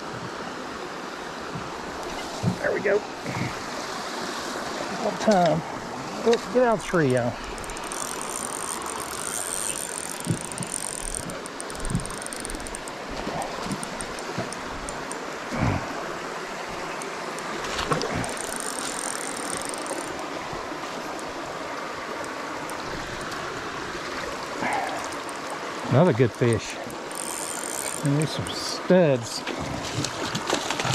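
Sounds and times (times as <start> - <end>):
creek water running over riffles: 0.0 - 30.9.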